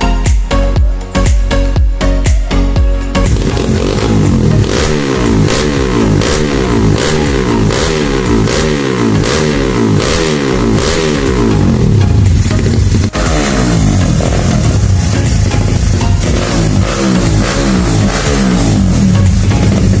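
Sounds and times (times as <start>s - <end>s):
motorcycle engine revving: 3.1s - 20.0s.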